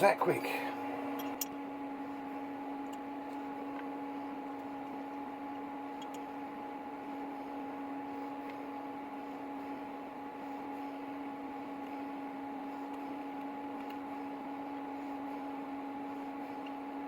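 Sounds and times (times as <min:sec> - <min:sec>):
two-tone machine hum: 0:00.0 - 0:17.0.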